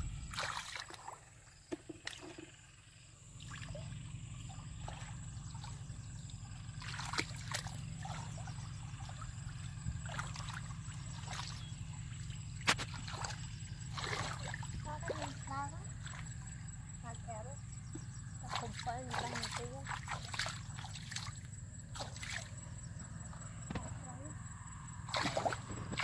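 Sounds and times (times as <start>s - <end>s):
muddy water sloshing: 0.0s - 24.3s, 25.0s - 26.0s
small splashes: 0.2s - 17.1s, 18.4s - 22.7s, 25.1s - 26.0s.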